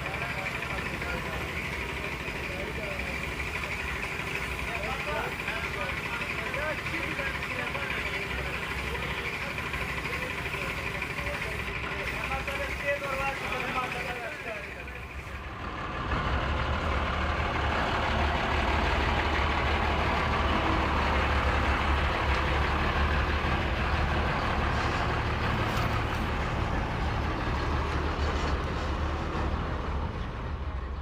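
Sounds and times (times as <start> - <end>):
heavy truck engine rumbling: 0.0 - 31.0.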